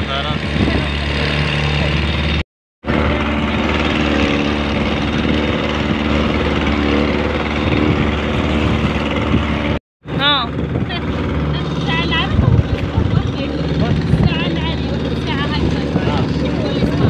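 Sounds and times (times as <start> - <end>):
outboard motor running: 0.0 - 17.0
wind: 0.0 - 17.0.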